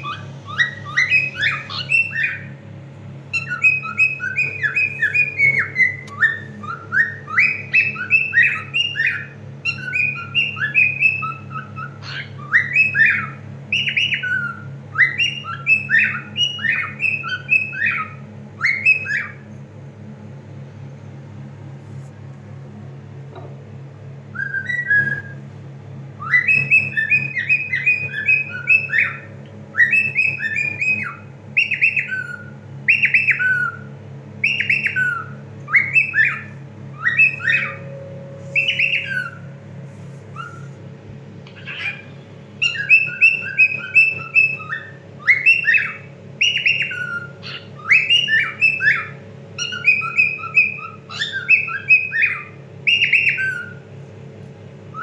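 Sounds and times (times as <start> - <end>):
cockatiel whistling song: 0.0 - 2.6, 3.3 - 19.5, 24.3 - 25.4, 26.2 - 40.9, 41.5 - 53.9.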